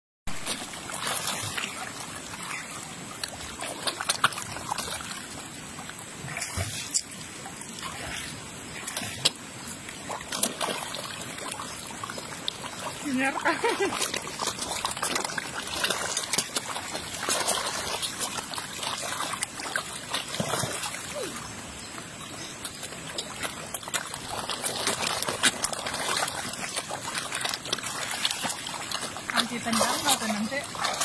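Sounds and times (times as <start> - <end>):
fish splashing at the surface: 0.3 - 21.5, 22.6 - 31.0.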